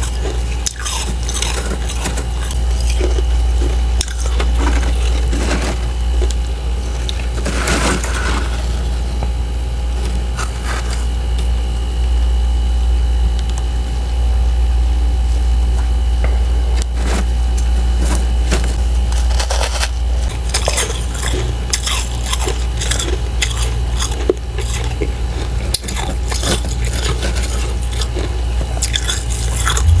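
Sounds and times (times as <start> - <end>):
freezer frost crunching: 0.0 - 9.3, 9.9 - 11.6, 16.8 - 30.0
steady low hum: 0.0 - 30.0.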